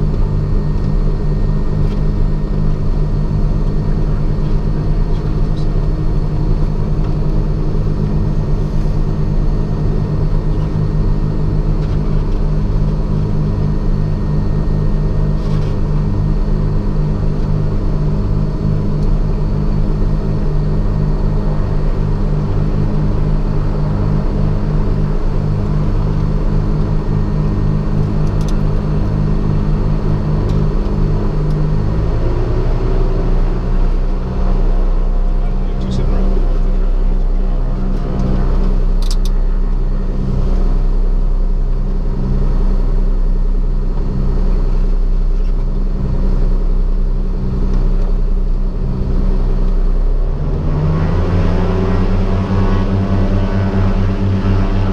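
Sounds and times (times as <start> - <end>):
twin piston aircraft engines droning: 0.0 - 54.9.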